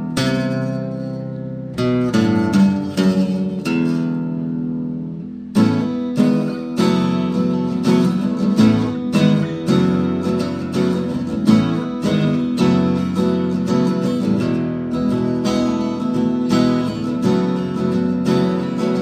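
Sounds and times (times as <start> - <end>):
strummed acoustic guitar chords: 0.0 - 19.0.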